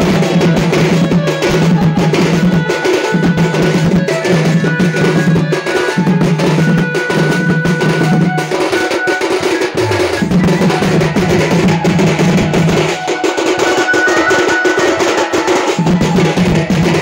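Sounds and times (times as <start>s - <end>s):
barrel drums beating: 0.0s - 17.0s
held melody notes: 0.0s - 17.0s.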